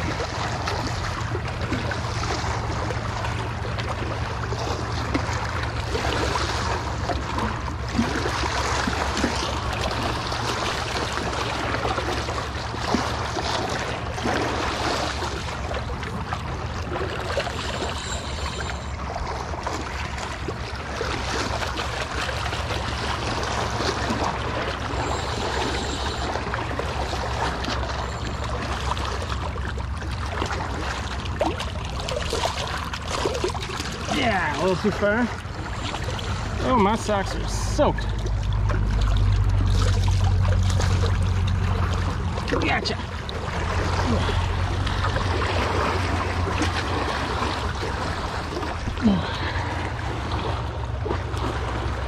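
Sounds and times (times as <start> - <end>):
low rumble: 0.0 - 52.0
seawater splashing against rocks: 0.0 - 52.0.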